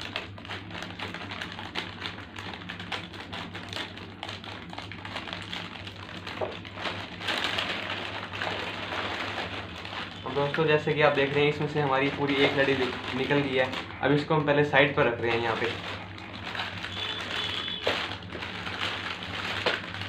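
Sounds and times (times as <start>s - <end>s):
snack packets crinkling: 0.0s - 20.0s.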